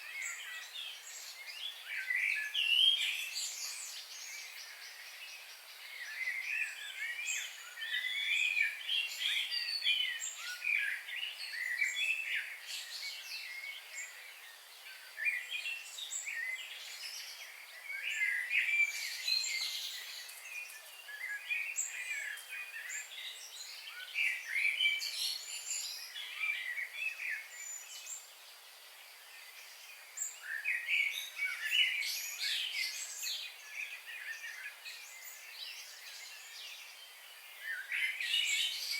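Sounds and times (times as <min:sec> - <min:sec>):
birds singing and chirping: 0:00.0 - 0:38.9
faint steady hiss: 0:00.0 - 0:38.9.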